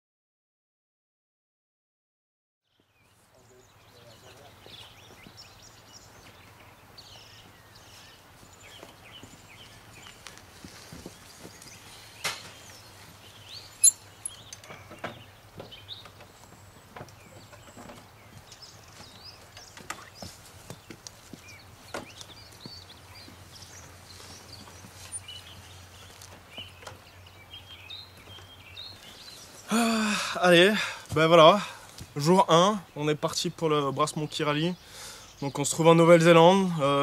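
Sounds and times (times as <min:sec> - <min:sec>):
birds chirping: 0:02.7 - 0:37.0.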